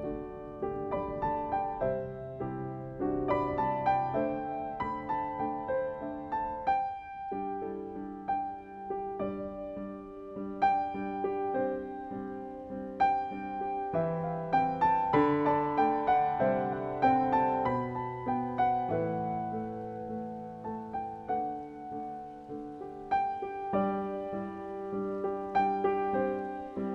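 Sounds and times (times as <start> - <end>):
gentle piano music: 0.0 - 26.9.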